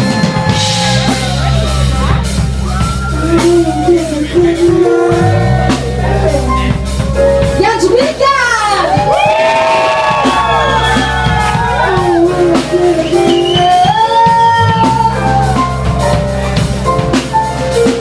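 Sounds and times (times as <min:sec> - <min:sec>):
drum kit: 0:00.0 - 0:18.0
electric bass: 0:00.0 - 0:18.0
sliding lead melody: 0:00.0 - 0:18.0.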